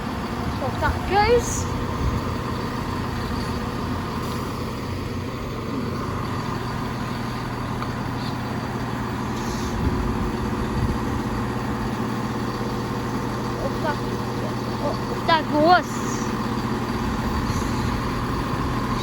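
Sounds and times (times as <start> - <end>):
train diesel engines running: 0.0 - 19.0.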